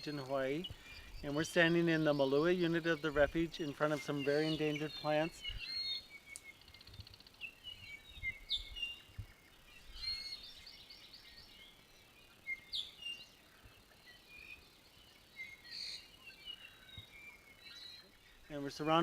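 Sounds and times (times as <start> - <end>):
forest birds chirping and singing: 0.0 - 19.0.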